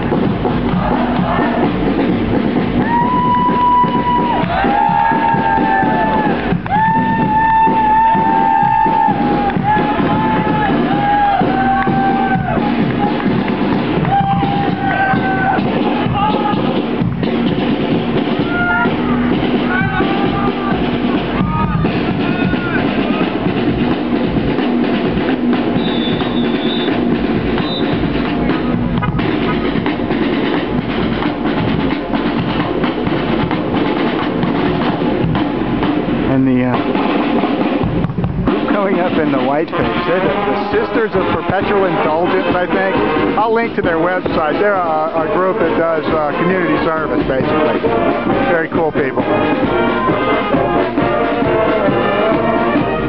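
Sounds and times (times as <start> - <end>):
marching band playing: 0.0 - 53.0
steady drumming: 0.0 - 53.0.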